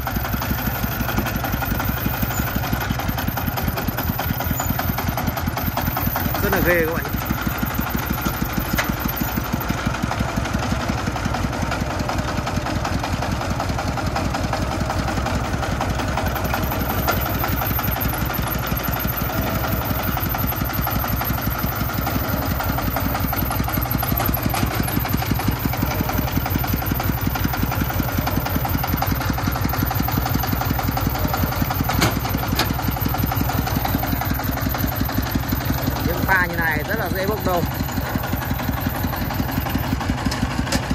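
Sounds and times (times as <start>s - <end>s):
diesel engine thudding: 0.0s - 40.9s.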